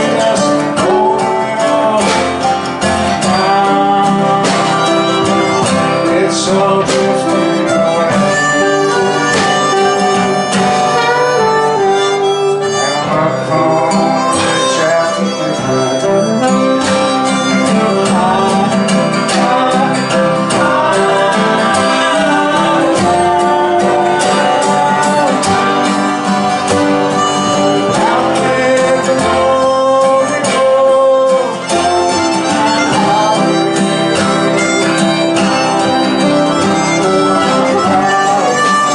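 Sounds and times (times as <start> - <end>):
blues harmonica: 0.0 - 38.9
strummed acoustic guitars: 0.0 - 38.9
upright bass: 0.0 - 38.9.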